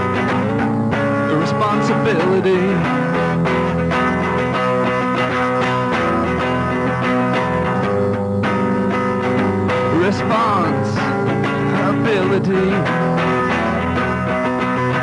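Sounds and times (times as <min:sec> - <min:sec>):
guitar band music: 0:00.0 - 0:15.0
wavering lead guitar line: 0:00.0 - 0:15.0.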